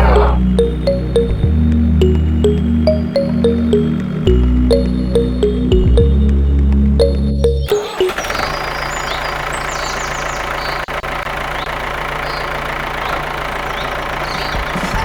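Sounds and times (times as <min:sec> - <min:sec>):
engine humming with rattle: 0:00.0 - 0:15.0.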